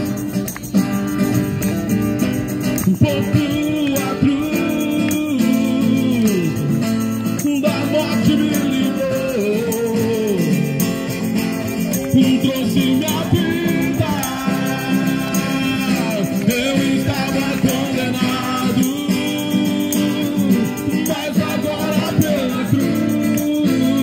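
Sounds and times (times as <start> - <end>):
shaken percussion: 0.0 - 24.0
worship song with singing voice: 2.8 - 6.7, 7.4 - 10.7, 11.7 - 24.0.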